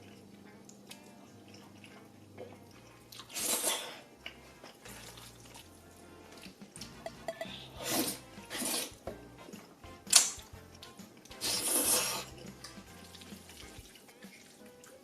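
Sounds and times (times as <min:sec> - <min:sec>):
faint background music: 0:00.0 - 0:15.0
slurping and mouth noises: 0:01.0 - 0:15.0.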